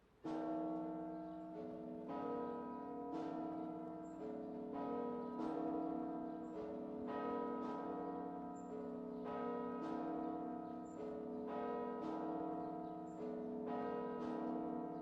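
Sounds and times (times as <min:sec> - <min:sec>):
bells ringing in a peal: 0:00.2 - 0:15.0.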